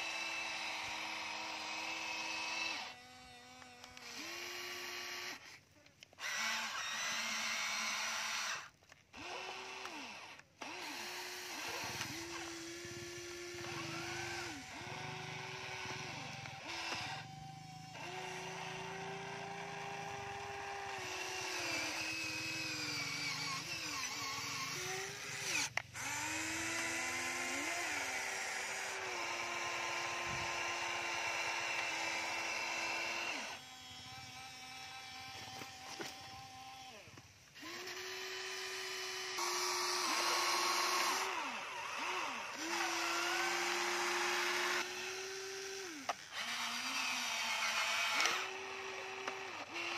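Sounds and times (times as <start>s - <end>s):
toy excavator motors whining: 0.0s - 49.9s.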